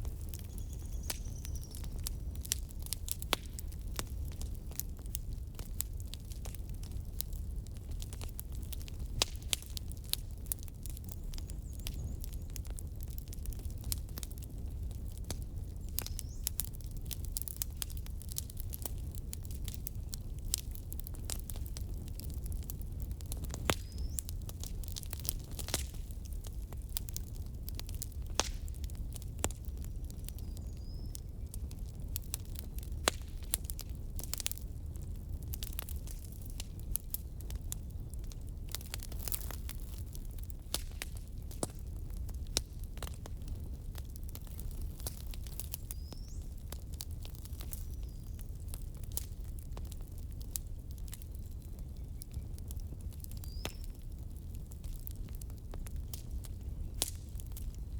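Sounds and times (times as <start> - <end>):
firewood crackling and popping: 0.0 - 57.9.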